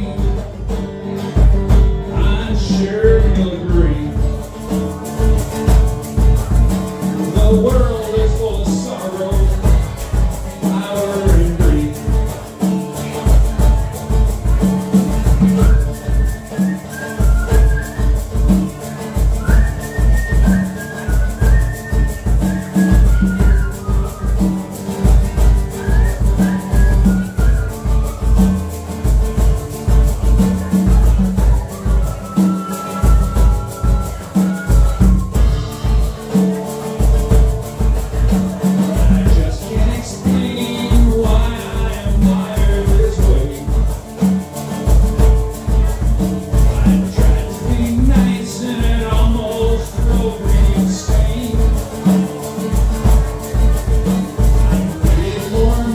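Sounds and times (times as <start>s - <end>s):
acoustic guitar strumming: 0.0s - 55.9s
conga drum beat: 0.0s - 55.9s.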